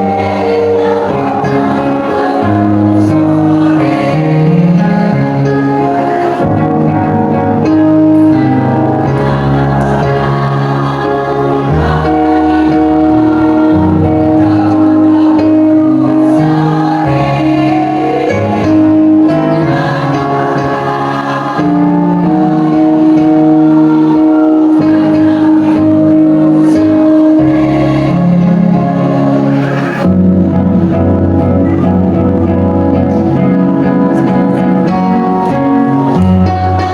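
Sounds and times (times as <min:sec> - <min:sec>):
choir singing: 0:00.0 - 0:36.9.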